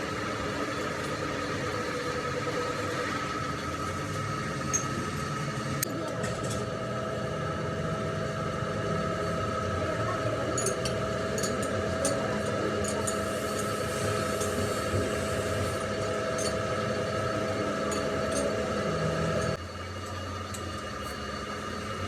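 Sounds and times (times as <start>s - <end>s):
metalworking machine humming: 0.0s - 22.0s.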